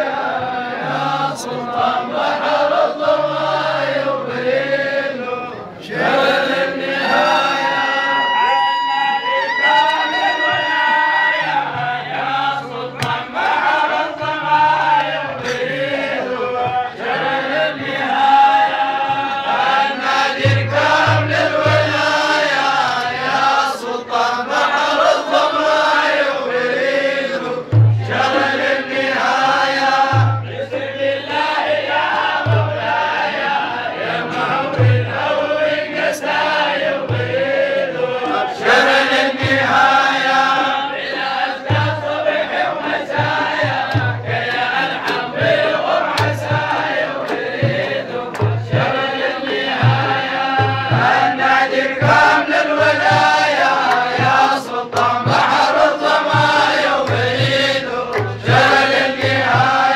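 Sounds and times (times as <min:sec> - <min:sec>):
men chanting together: 0:00.0 - 0:08.4, 0:09.6 - 0:59.9.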